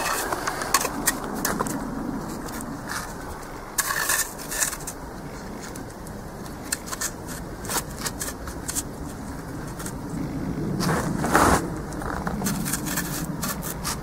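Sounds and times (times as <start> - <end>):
wooden poles knocking and scraping: 0.0 - 10.0, 10.8 - 14.0.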